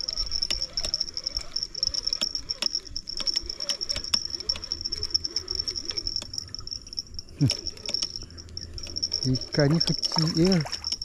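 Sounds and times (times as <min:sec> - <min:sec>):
fishing reel winding: 0:00.0 - 0:11.0
high-pitched pulsing drone: 0:00.0 - 0:11.0
light clicks and rattles: 0:00.0 - 0:11.0.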